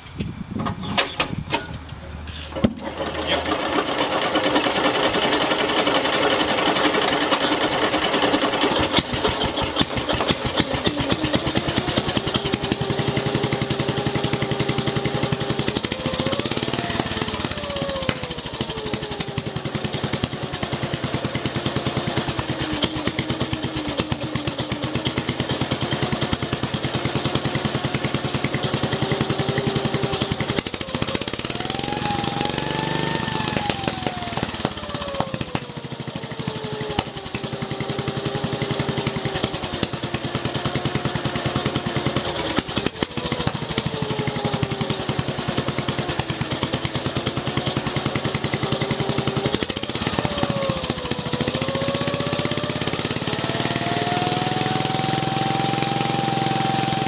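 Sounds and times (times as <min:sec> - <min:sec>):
small engine running loud: 0:02.6 - 0:57.0.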